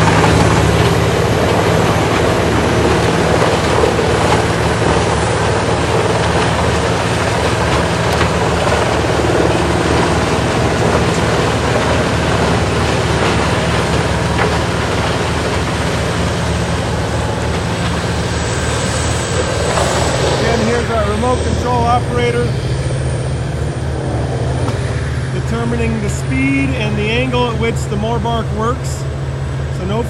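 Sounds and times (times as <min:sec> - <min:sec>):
diesel engine running under load: 0:00.0 - 0:30.0.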